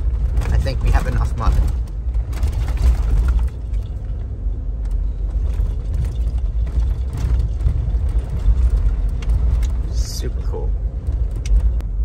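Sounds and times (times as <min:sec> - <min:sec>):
light clicks and rattles: 0:00.0 - 0:11.9
engine and tyres rumbling: 0:00.0 - 0:12.0.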